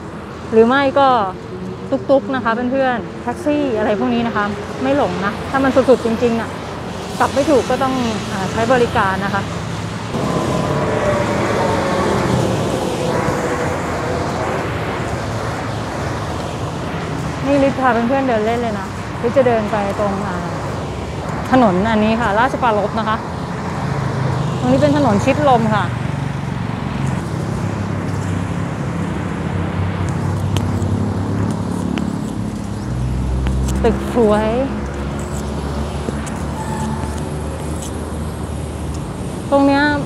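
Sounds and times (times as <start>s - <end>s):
road traffic roar: 0.0s - 40.0s
passing engine drone: 7.2s - 40.0s.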